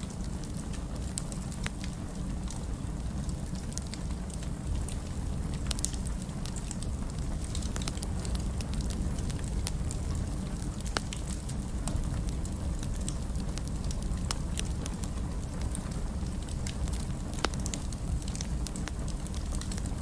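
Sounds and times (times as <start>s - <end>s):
fire crackling and popping: 0.0s - 20.0s.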